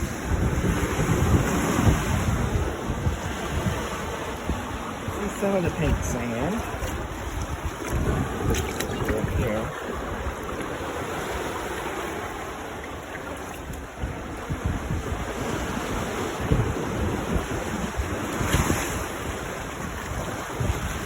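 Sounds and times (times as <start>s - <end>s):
waves breaking on a beach: 0.0s - 21.0s
wind buffeting microphone: 0.0s - 21.0s.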